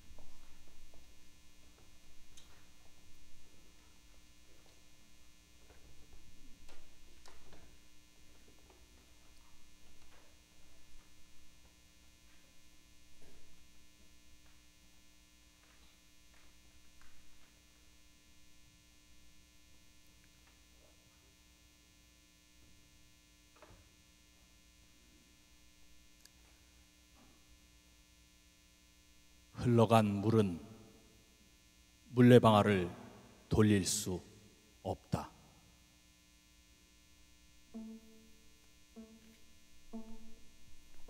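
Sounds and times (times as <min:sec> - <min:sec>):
steady electrical hum: 0:00.0 - 0:41.0.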